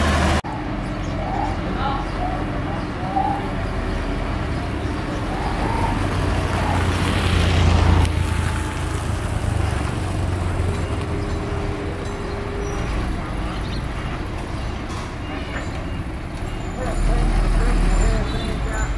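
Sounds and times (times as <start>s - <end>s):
diesel dump truck engines: 0.0s - 18.9s.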